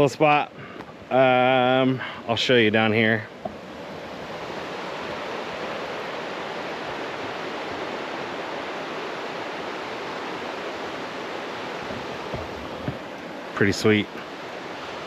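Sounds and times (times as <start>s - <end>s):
fast-flowing creek rushing: 0.0s - 15.0s.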